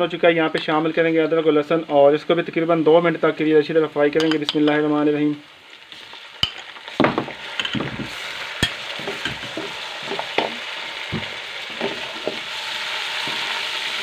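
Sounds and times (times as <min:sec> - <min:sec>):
onions sizzling in hot fat: 0:00.0 - 0:14.0.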